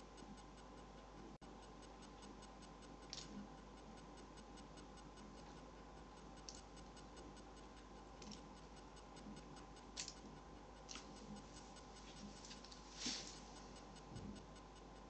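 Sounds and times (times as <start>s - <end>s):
faint even ticking: 0.0s - 15.0s
faint steady hum: 0.0s - 15.0s.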